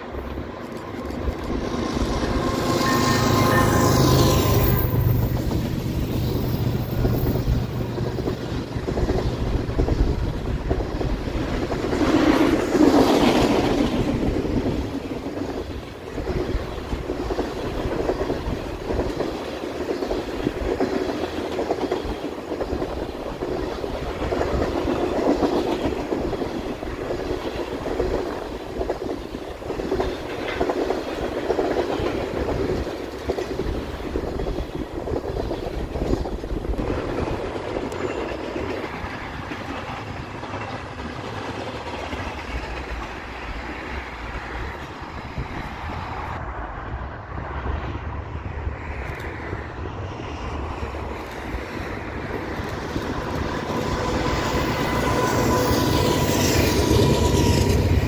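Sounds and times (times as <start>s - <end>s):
freight train wheels clicking on rails: 0.0s - 46.4s, 48.7s - 58.0s.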